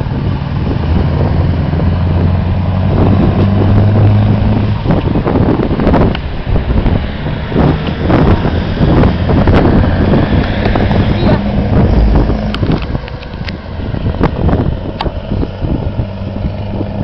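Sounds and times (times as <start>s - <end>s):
traffic engine drone: 0.0s - 17.0s
wind buffeting microphone: 0.0s - 17.0s.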